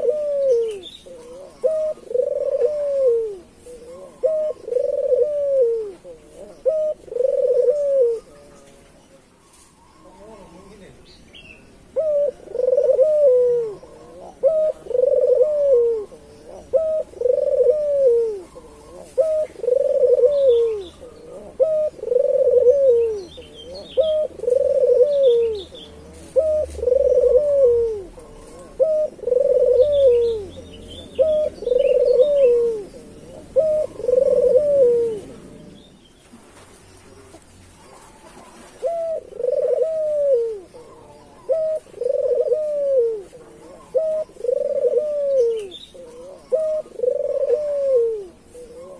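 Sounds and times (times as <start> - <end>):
dove cooing: 0.0 - 11.0, 11.6 - 48.9
small birds chirping: 0.0 - 48.9.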